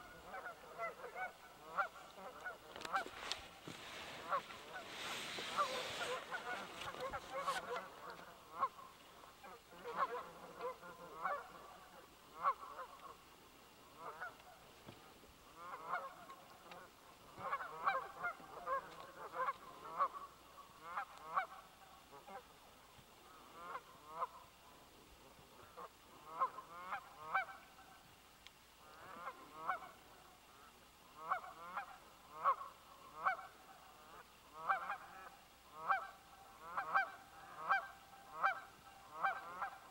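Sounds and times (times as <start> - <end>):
geese honking: 0.0 - 13.2, 13.9 - 22.4, 23.2 - 24.5, 25.6 - 28.0, 28.8 - 39.9.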